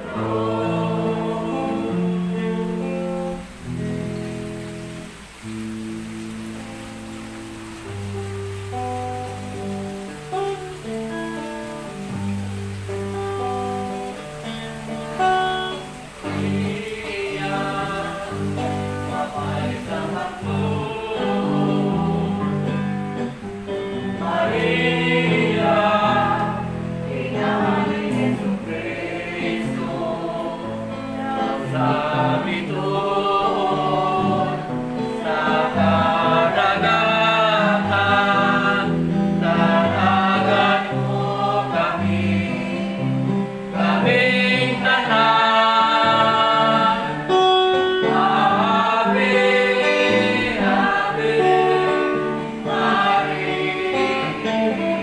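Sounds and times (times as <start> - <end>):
group singing: 0.0 - 5.2, 13.1 - 55.0.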